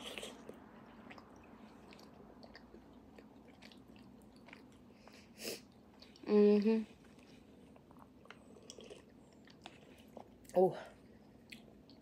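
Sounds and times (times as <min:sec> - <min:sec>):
close-up chewing: 0:00.0 - 0:06.3, 0:07.0 - 0:10.6.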